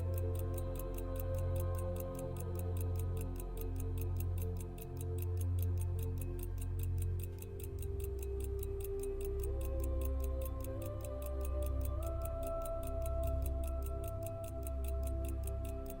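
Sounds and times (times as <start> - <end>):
music with slow sustained tones: 0.0 - 16.0
pocket watch ticking: 0.0 - 16.0.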